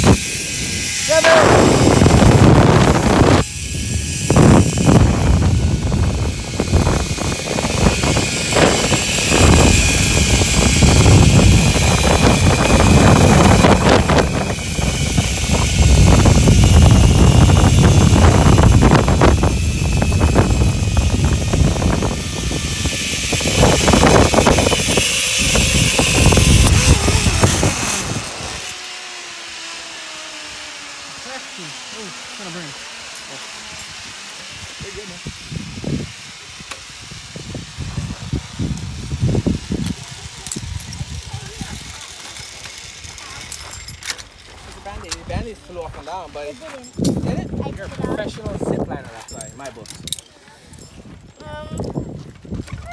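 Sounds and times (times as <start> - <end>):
wind buffeting microphone: 0.0 - 28.7, 33.8 - 50.2, 50.8 - 52.9
zipline trolley running on cable: 0.0 - 52.9.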